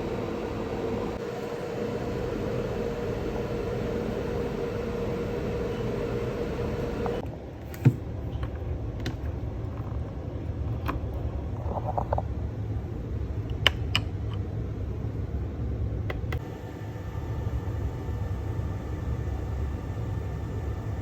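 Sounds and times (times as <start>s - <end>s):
machine humming with faint whine: 0.0s - 21.0s.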